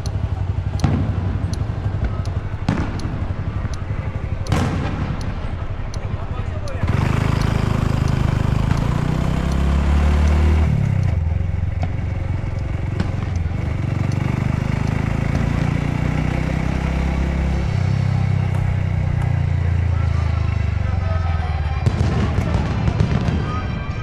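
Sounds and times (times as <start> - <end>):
motorcycle engine running: 0.0 - 23.4.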